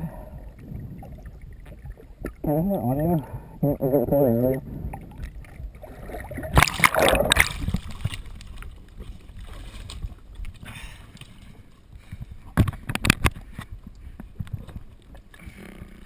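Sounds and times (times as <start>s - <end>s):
water splashing and sloshing: 0.0s - 3.6s, 4.2s - 16.0s.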